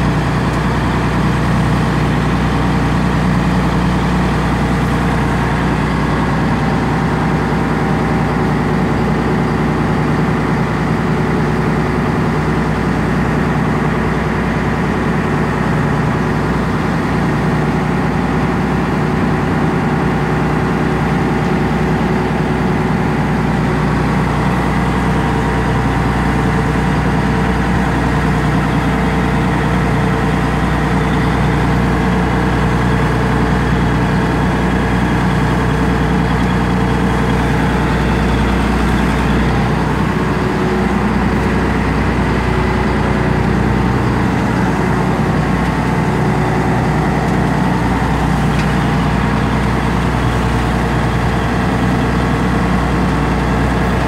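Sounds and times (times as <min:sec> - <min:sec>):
boat engine droning: 0:00.0 - 0:54.0
rush of boat wake: 0:00.0 - 0:54.0.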